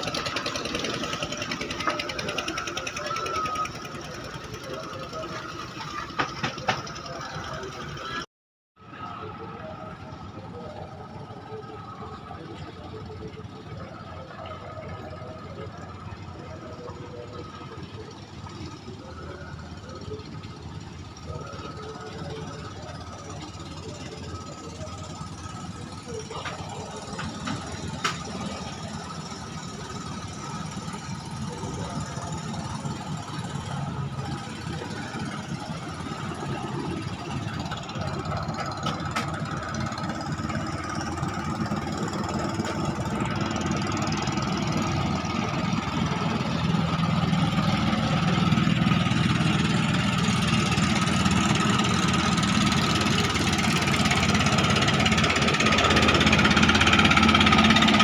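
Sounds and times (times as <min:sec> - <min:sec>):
boat engine knocking drone: 0:00.0 - 0:08.2, 0:08.9 - 0:58.0.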